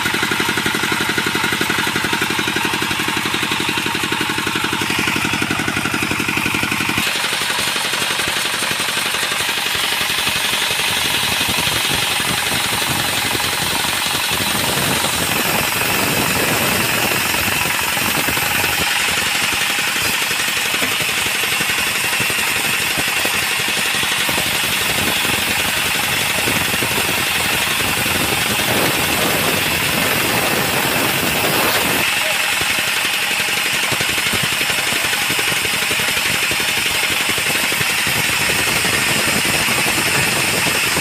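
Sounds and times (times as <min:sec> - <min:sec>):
sawmill saw cutting log: 0:00.0 - 0:41.0.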